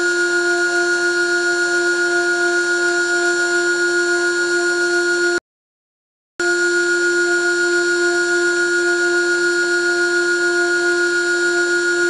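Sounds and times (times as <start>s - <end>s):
lathe running with steady whine: 0.0s - 5.4s, 6.4s - 12.0s.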